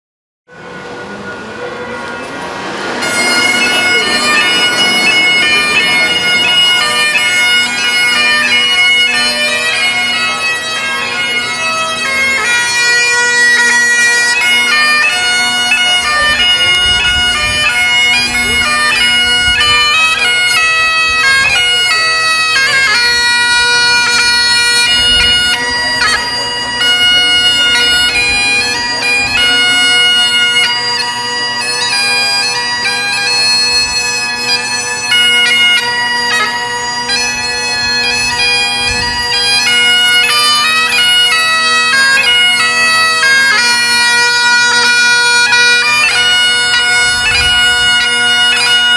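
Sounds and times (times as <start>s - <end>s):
bagpipe playing a tune: 0.5s - 48.9s.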